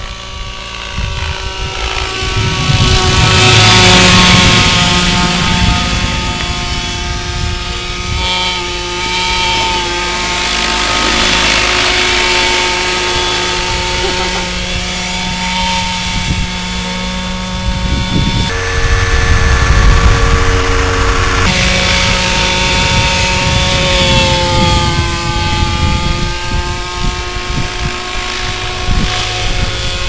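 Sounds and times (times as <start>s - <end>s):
model helicopter engine and rotors: 0.0s - 30.0s.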